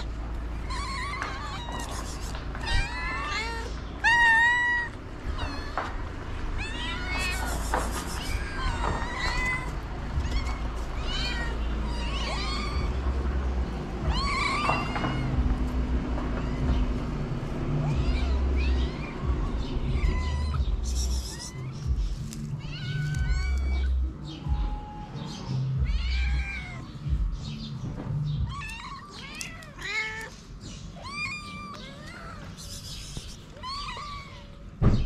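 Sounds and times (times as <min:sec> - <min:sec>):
cats and kittens meowing: 0:00.0 - 0:35.0.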